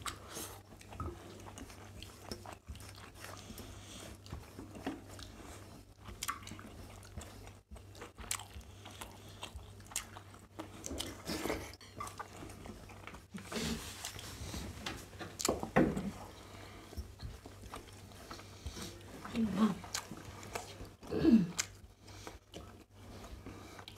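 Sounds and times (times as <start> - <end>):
chewing and mouth sounds: 0.0 - 23.9
low steady hum: 0.0 - 23.9.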